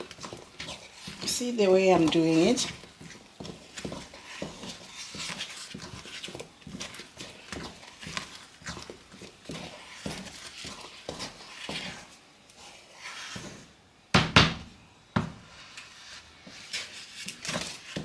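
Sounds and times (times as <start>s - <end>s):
wooden spoon stirring thick porridge: 0.0s - 14.1s, 15.0s - 18.0s.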